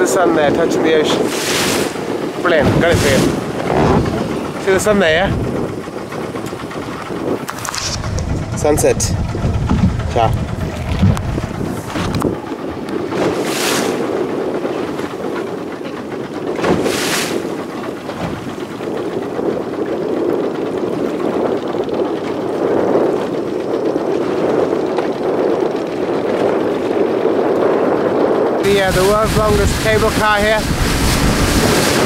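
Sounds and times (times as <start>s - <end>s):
speedboat engine drone: 0.0s - 32.0s
wind on microphone: 0.0s - 32.0s.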